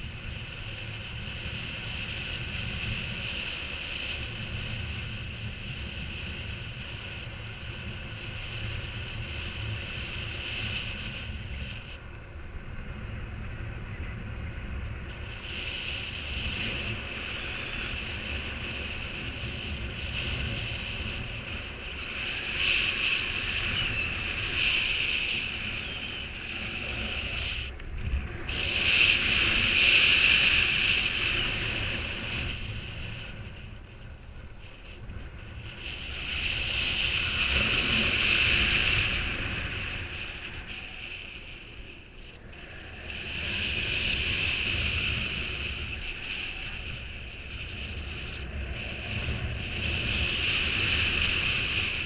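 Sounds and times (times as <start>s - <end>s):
high wind whistle: 0.0s - 52.0s
wind buffeting microphone: 0.0s - 52.0s.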